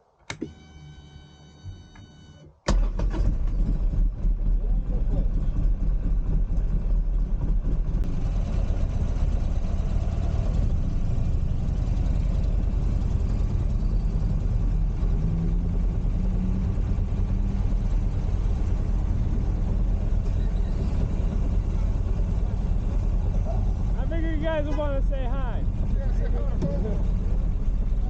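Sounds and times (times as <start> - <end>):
motorcycle engine rumbling: 2.9 - 28.0.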